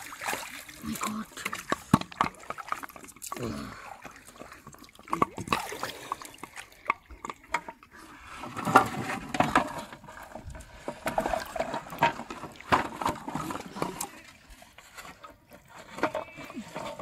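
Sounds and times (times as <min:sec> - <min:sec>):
water splashing: 0:00.0 - 0:14.6
knocks and rattles of a float trap: 0:00.0 - 0:17.0.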